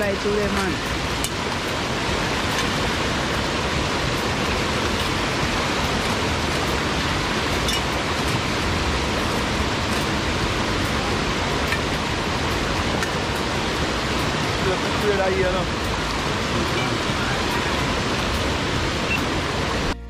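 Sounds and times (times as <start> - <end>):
river flowing over rocks: 0.0 - 20.0.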